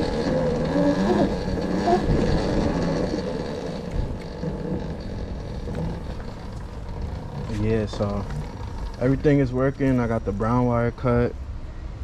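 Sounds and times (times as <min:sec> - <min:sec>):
electric motor whine: 0:00.0 - 0:10.4
tyre noise: 0:00.0 - 0:10.7
wind: 0:00.0 - 0:12.0.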